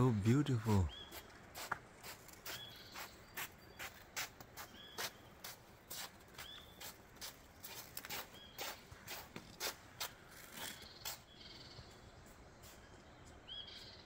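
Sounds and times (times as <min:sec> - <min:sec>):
bird chirping: 0:00.0 - 0:01.7, 0:02.3 - 0:09.5, 0:10.4 - 0:14.0
footsteps on a trail: 0:00.0 - 0:11.4.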